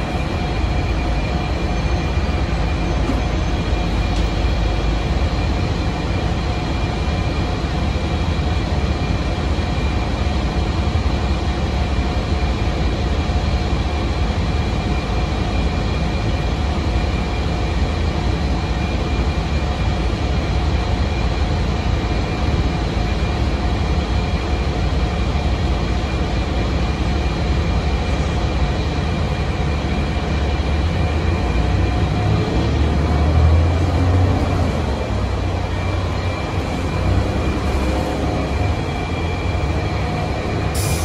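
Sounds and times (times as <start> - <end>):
bus engine rumble: 0.0 - 41.0.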